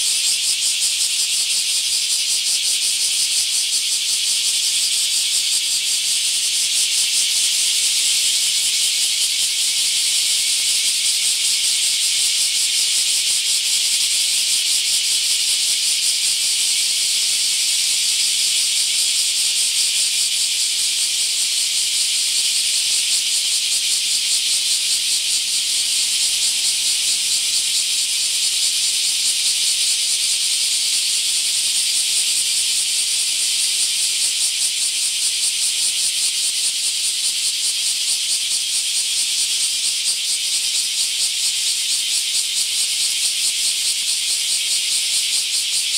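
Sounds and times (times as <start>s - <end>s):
cicadas buzzing in chorus: 0.0s - 45.9s.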